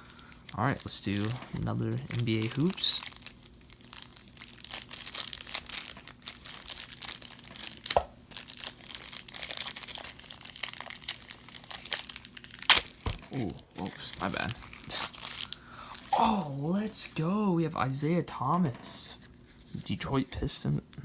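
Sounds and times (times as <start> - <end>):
paper wrapper crinkling and tearing: 0.0 - 17.2.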